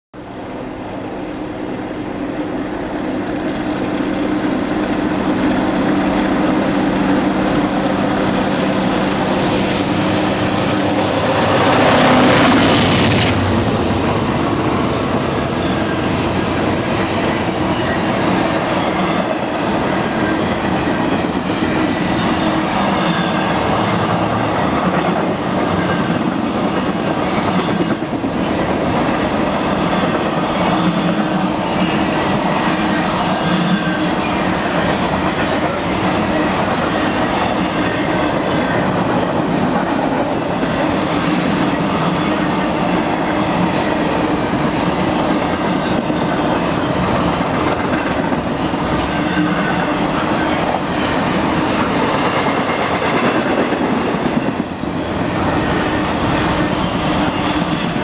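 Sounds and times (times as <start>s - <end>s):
locomotive engine drone: 0.2s - 53.0s
train cars rumbling on rails: 0.2s - 58.0s.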